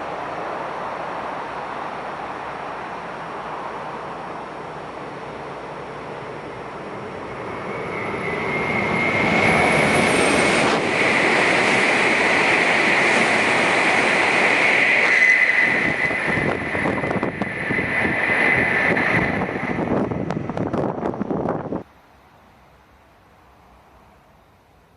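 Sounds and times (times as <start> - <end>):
high-speed train passing: 0.0 - 24.9.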